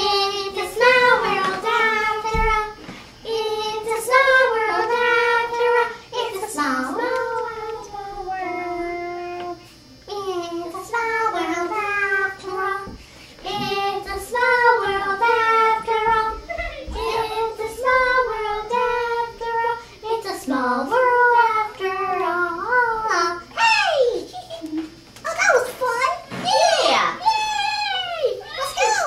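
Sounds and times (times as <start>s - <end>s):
child singing unaccompanied: 0.0s - 23.6s.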